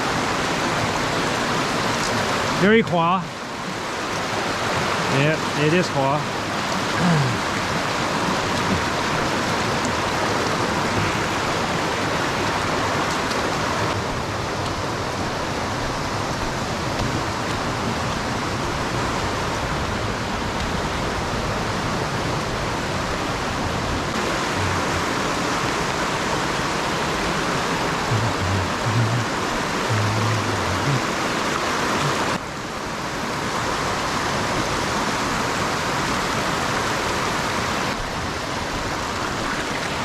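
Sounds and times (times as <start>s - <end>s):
fast-running creek water rushing: 0.0s - 40.0s.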